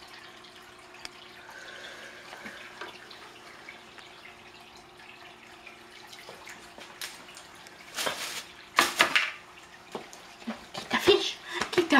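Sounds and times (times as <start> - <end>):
faint steady hum: 0.0 - 11.9
water trickling and dripping: 0.0 - 11.9.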